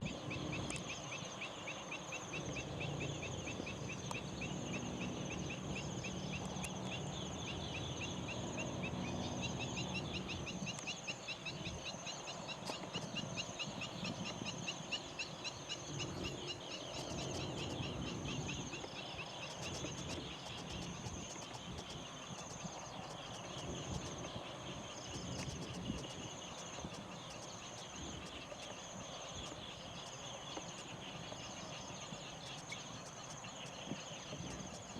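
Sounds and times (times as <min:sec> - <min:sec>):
high insect whine: 0:00.0 - 0:34.9.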